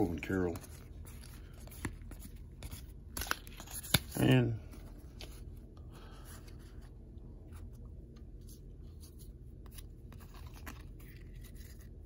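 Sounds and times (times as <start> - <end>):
cards clicking and rustling: 0.0 - 5.5, 7.6 - 12.0
low steady hum: 0.0 - 12.0.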